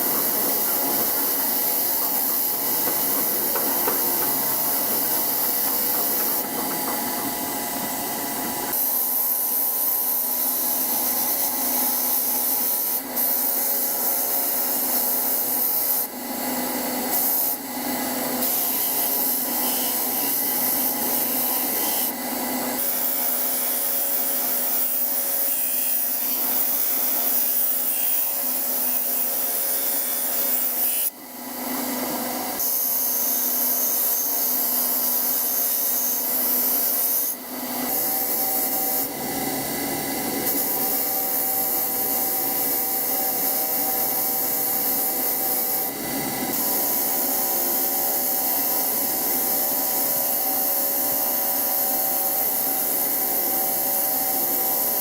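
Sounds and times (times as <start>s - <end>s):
abrasive power tool rasping: 0.0s - 16.1s, 18.2s - 50.7s.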